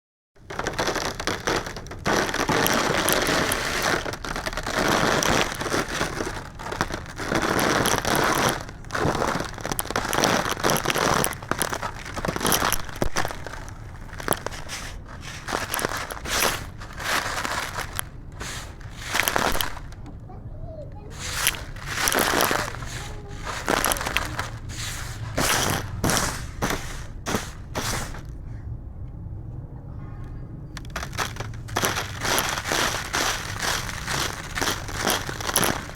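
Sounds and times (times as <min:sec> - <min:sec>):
concrete crunching and crackling: 0:00.4 - 0:20.3, 0:20.9 - 0:28.4, 0:30.8 - 0:35.9.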